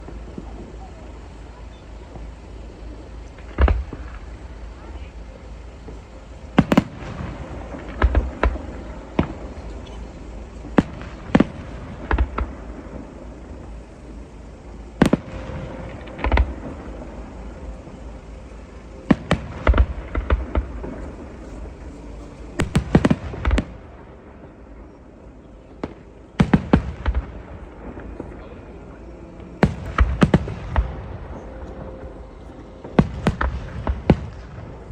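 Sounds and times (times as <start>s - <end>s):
fireworks bangs: 0.0s - 34.9s
steady low rumble: 0.0s - 34.9s.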